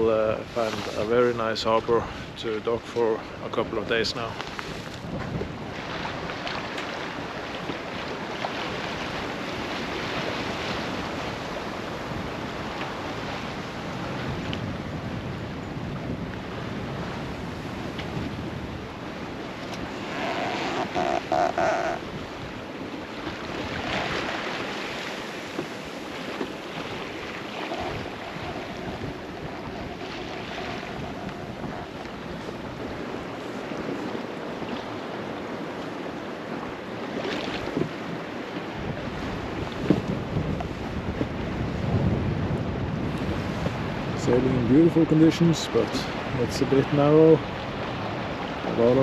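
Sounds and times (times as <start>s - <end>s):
water rushing along hull: 0.0s - 49.0s
wind on microphone: 0.0s - 49.0s.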